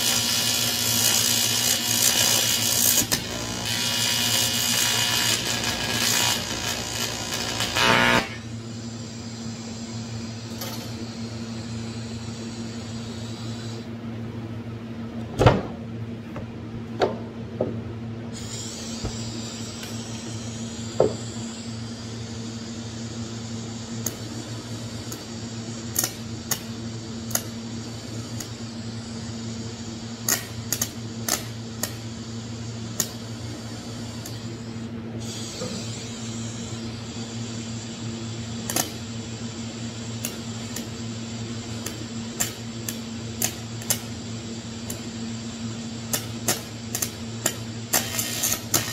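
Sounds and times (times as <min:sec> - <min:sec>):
welding arc hiss: 0:00.0 - 0:14.0, 0:18.3 - 0:48.9
welder electrical hum: 0:00.0 - 0:48.9.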